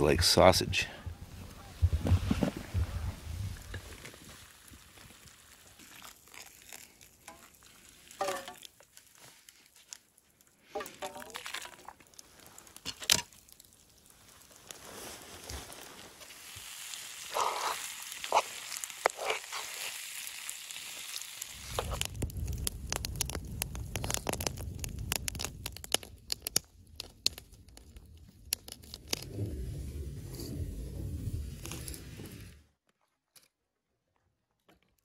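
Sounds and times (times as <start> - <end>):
fire crackling and popping: 0.0 - 32.6.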